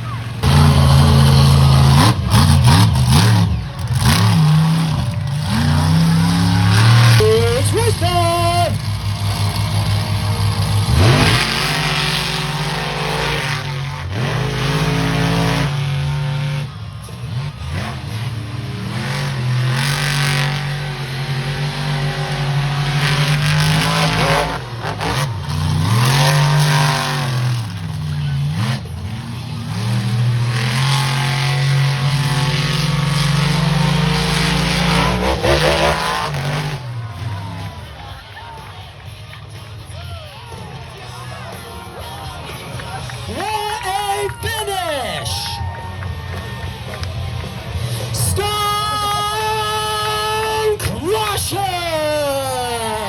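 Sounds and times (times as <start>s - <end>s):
monster truck engines revving: 0.0s - 53.0s.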